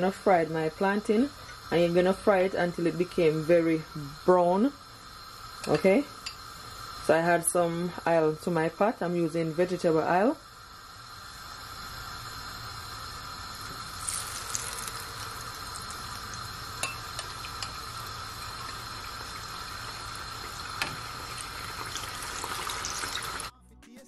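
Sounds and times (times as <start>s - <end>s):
plantain frying in oil: 0.0s - 23.5s.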